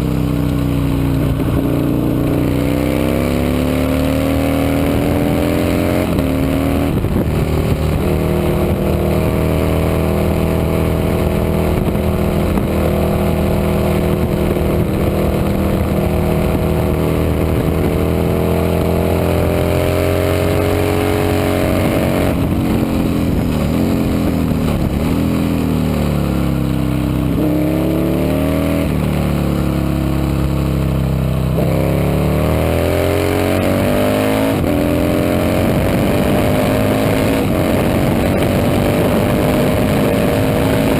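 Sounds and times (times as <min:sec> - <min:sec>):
racing motorcycle engine: 0:00.0 - 0:40.9.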